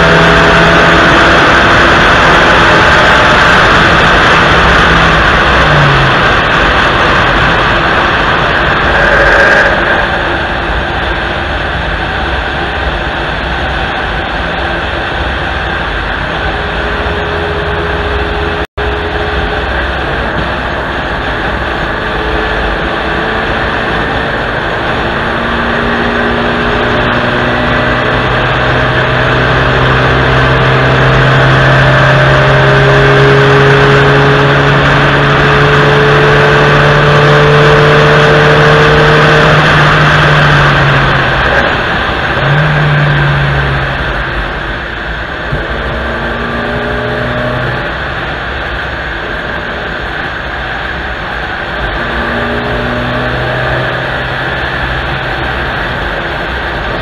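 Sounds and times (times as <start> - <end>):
car engine accelerating: 0.0 - 57.0
wind and road noise: 0.0 - 57.0.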